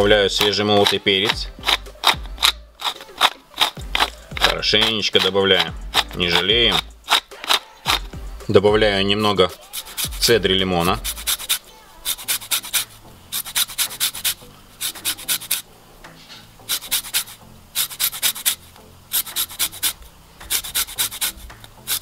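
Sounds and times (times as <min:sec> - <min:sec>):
rasping of lemon zesting on grater: 0:00.4 - 0:08.1, 0:09.5 - 0:15.6, 0:16.6 - 0:22.0.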